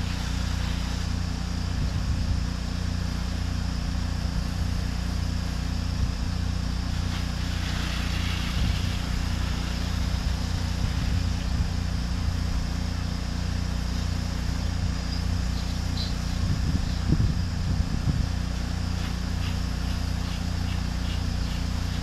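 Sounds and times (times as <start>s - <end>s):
high-pressure water spraying: 0.0s - 22.0s
pressure washer engine running: 0.0s - 22.0s.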